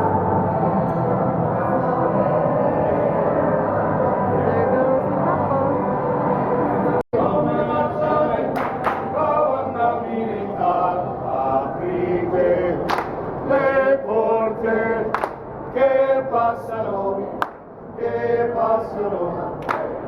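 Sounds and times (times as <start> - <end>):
operatic singing: 0.0 - 20.0.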